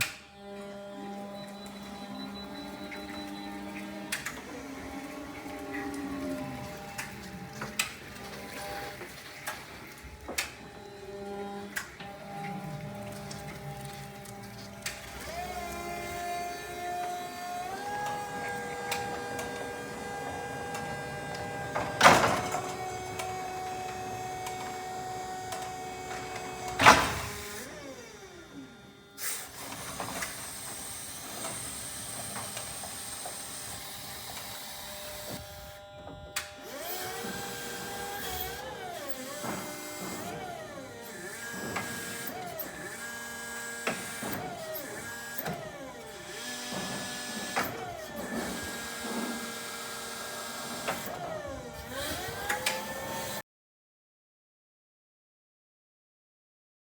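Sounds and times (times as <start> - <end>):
forklift electric motor whining: 0.0 - 53.4.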